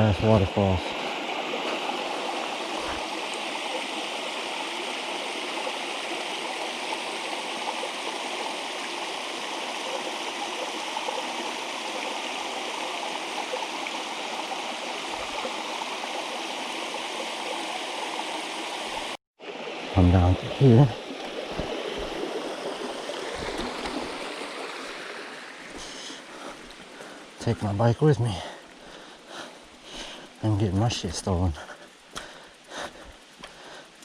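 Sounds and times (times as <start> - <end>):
small waterfall splashing: 0.1 - 30.6.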